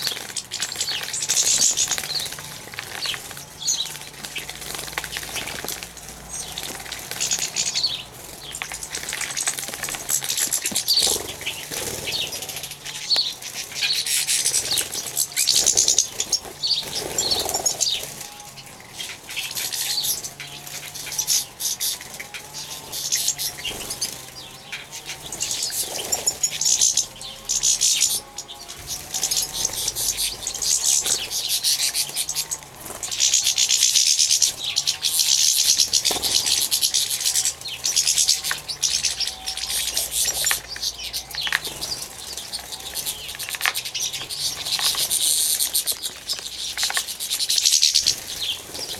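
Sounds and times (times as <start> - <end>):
birds chirping: 0.0 - 48.9
birds splashing in water: 0.0 - 48.9.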